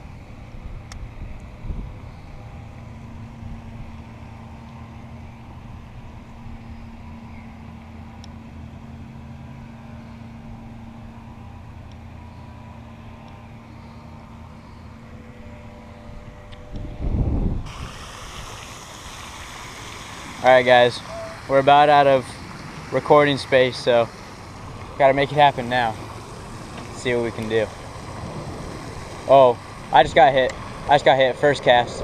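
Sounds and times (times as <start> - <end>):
distant motor humming: 0.0 - 32.0.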